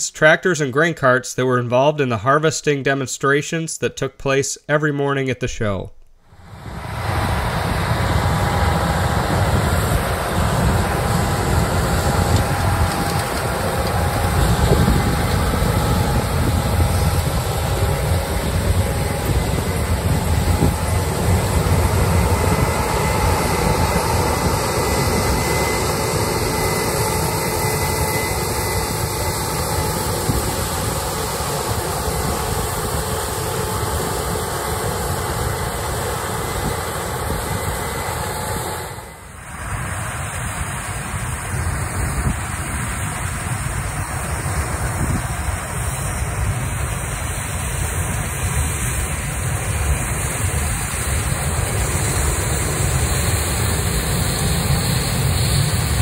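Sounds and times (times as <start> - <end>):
faint steady whine: 5.9 - 56.0
harvesting machinery running: 6.3 - 56.0.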